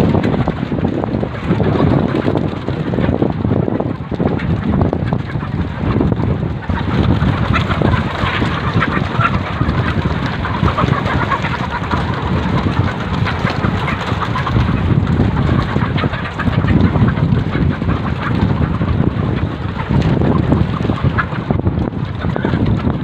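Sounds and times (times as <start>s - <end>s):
hens clucking and squawking: 0.0s - 23.0s.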